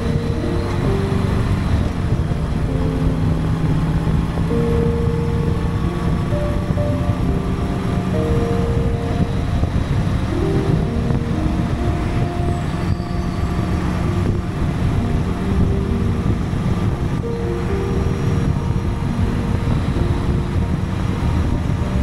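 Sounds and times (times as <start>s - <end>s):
motorcycle engine rumble: 0.0s - 22.0s
wind on microphone: 0.0s - 22.0s.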